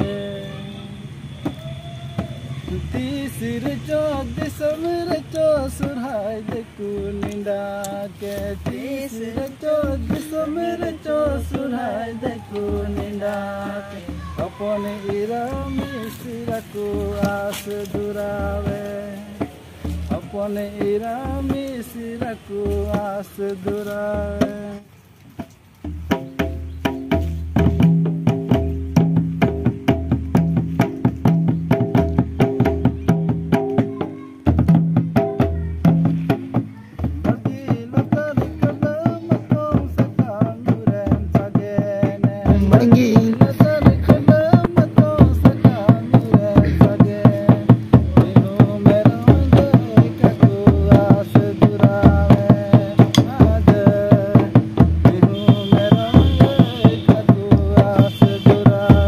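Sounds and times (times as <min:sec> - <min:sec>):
barrel drum played by hand: 0:00.0 - 0:59.0
kettledrum beaten with sticks: 0:01.2 - 0:24.8, 0:25.4 - 0:59.0.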